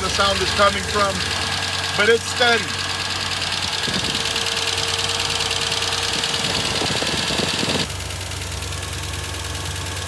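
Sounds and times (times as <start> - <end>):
engine idling with ticking knock: 0.0 - 10.0.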